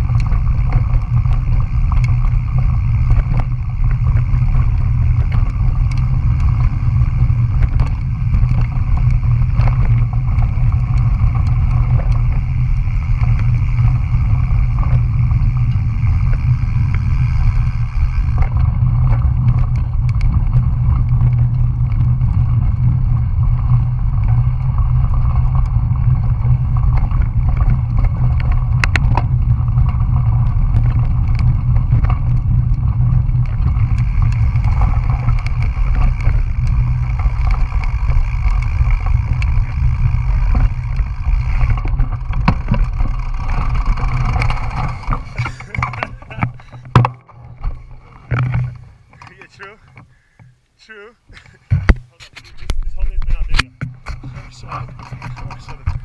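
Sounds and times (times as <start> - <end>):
wind buffeting microphone: 0.0 - 50.2
bike clicks and rattles: 0.0 - 50.6, 51.4 - 56.0
tyre noise on dirt road: 0.0 - 56.0.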